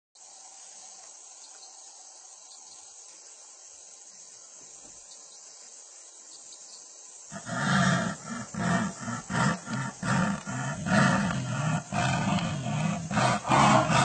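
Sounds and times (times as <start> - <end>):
high-pitched insect chorus: 0.2 - 14.0.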